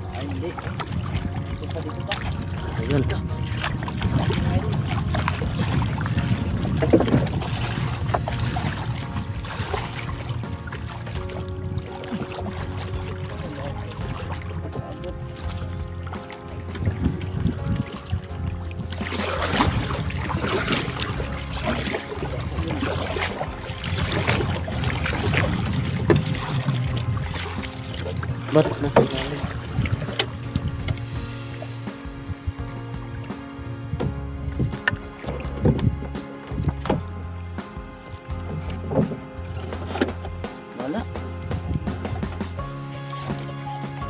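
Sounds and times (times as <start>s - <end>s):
water splashing against boat: 0.0s - 44.0s
wind buffeting microphone: 0.0s - 44.0s.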